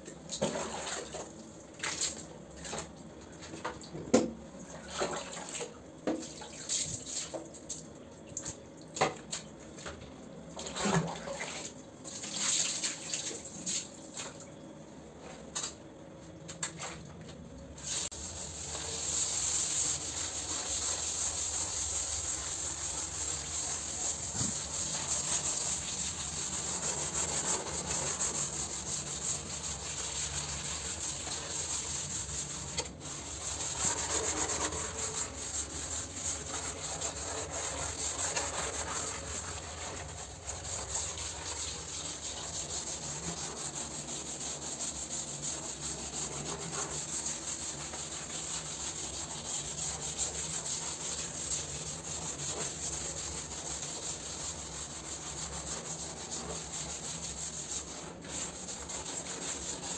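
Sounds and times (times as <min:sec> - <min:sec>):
scrubbing wet shower floor: 0:00.4 - 0:02.9, 0:04.8 - 0:07.4, 0:10.6 - 0:14.4, 0:17.8 - 0:59.9.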